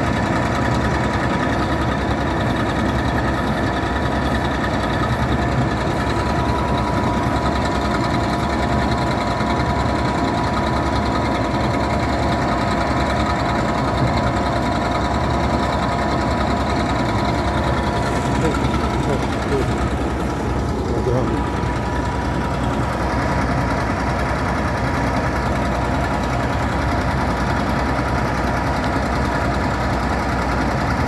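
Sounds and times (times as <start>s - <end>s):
combine harvester engine running: 0.0s - 31.0s
machinery whine: 0.0s - 31.0s.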